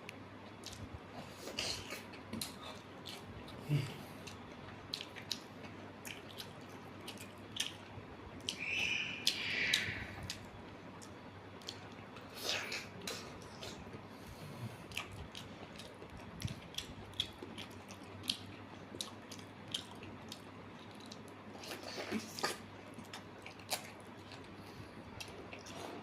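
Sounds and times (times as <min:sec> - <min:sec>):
person chewing meat: 0:00.4 - 0:26.0.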